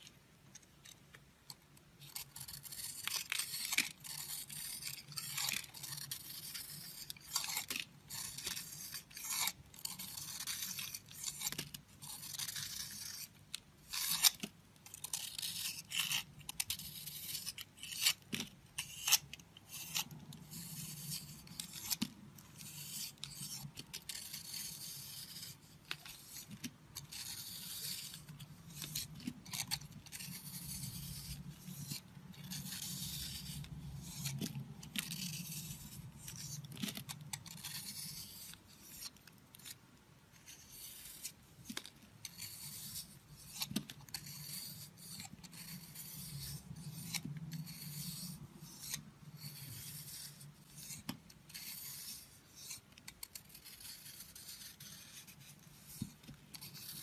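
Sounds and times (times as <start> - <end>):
knife scraping soap: 0.5 - 57.0.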